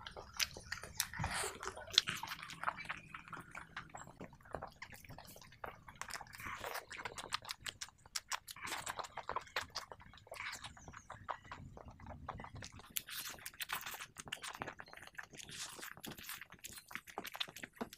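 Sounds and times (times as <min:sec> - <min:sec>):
wet chewing and lip-smacking: 0:00.0 - 0:17.9.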